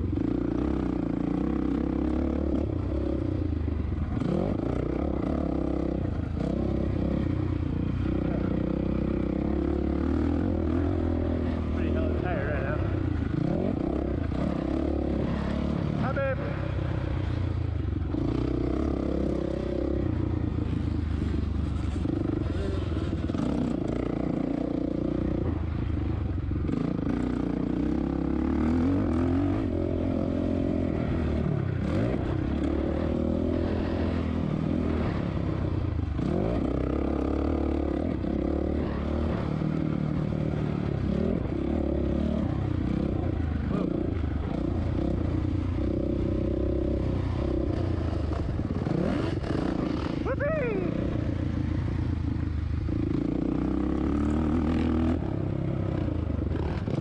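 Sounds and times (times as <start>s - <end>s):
motorcycle engine revving: 0.0s - 57.0s
wind: 0.0s - 57.0s.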